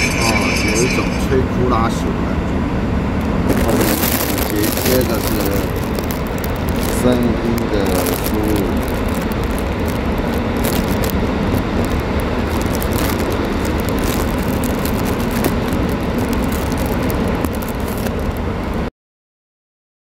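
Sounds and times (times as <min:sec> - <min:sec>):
air conditioning blowing: 0:00.0 - 0:18.9
road and engine rumble: 0:00.0 - 0:18.9.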